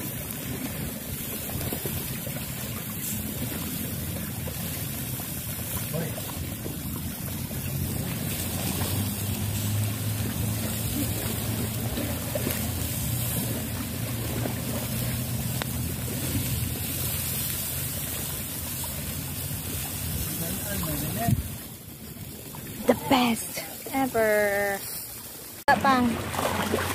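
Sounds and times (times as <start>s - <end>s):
engine running: 0.0s - 26.9s.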